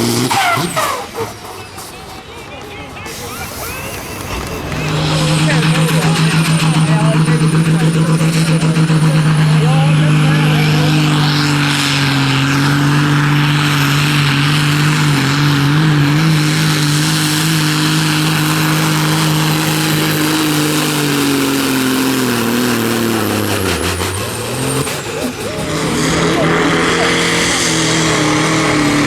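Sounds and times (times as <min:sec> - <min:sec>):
tractor engine at high revs: 0:00.0 - 0:29.0.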